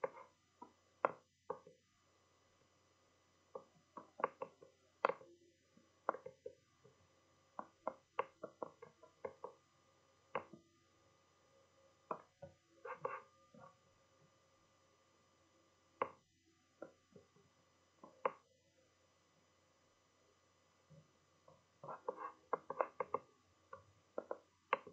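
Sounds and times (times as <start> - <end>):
faint room hum: 0.0 - 24.9.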